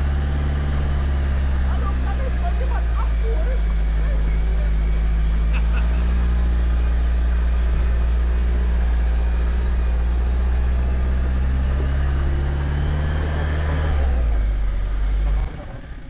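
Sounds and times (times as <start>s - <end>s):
vehicle engine droning at low revs: 0.0s - 16.0s.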